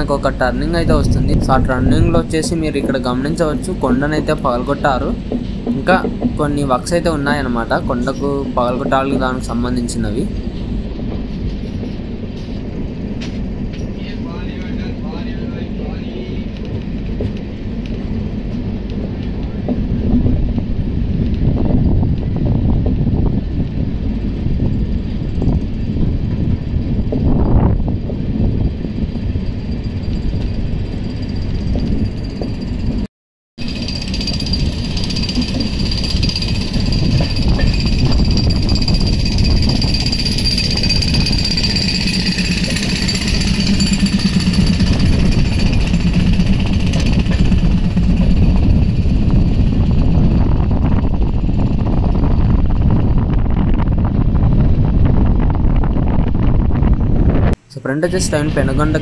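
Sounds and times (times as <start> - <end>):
train wheels rattling on track: 0.0 - 56.8
wind noise: 0.0 - 59.0.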